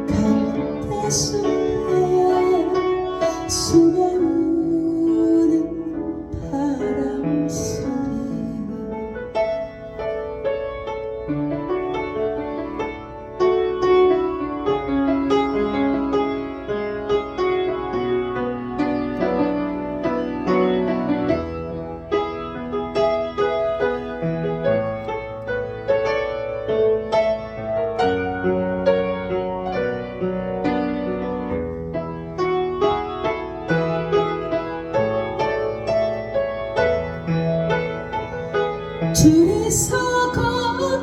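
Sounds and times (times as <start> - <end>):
piano ballad chords: 0.0 - 41.0.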